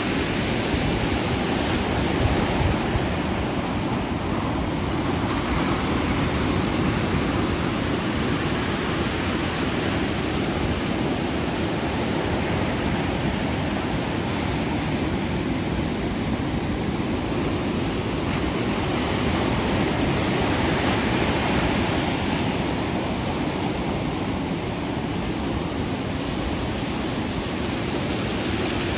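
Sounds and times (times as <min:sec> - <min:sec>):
ocean waves breaking: 0:00.0 - 0:28.9.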